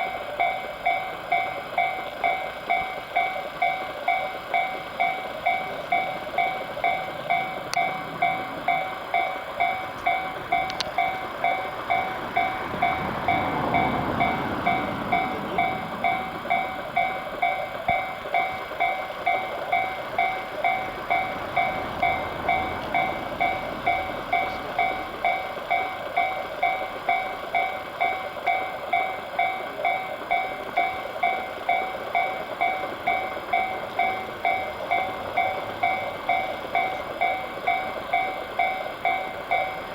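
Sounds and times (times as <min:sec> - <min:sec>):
level crossing bell ringing: 0:00.0 - 0:39.9
passing train rumble: 0:00.0 - 0:39.9.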